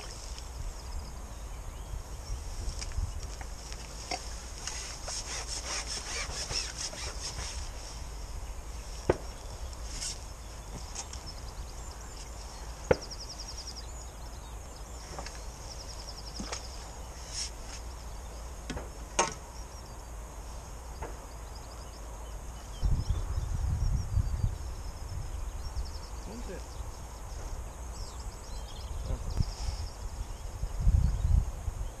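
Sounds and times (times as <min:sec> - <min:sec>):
wind rumbling on microphone: 0:00.0 - 0:19.0, 0:20.0 - 0:32.0.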